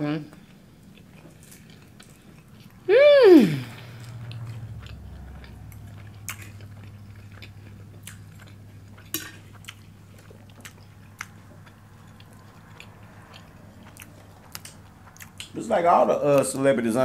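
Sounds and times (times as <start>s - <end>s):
steady low hum: 0.0s - 17.0s
chewing: 0.3s - 2.9s, 3.7s - 15.6s.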